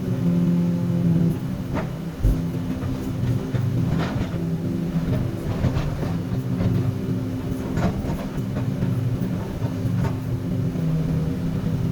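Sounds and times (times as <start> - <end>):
excavator diesel engine running: 0.0 - 11.9.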